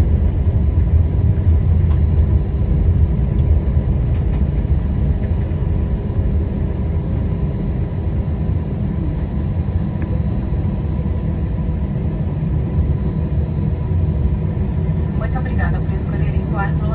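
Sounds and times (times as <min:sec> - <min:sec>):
airliner cabin rumble: 0:00.0 - 0:16.9.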